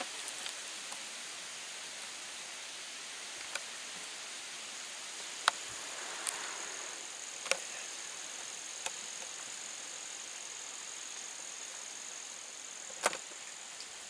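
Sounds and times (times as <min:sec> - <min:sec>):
background hiss: 0:00.0 - 0:14.0
insects droning: 0:00.0 - 0:14.0.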